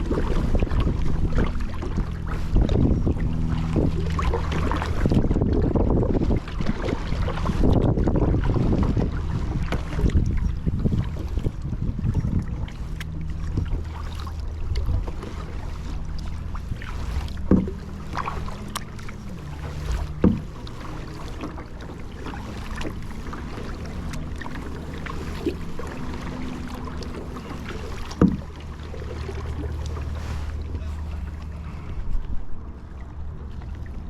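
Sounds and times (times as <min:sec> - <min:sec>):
kayak paddling in water: 0:00.0 - 0:34.0
low rumble: 0:00.0 - 0:34.0.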